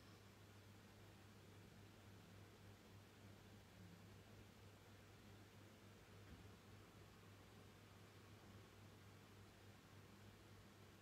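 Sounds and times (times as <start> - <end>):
faint low hum: 0.0 - 11.0
light hiss: 0.0 - 11.0.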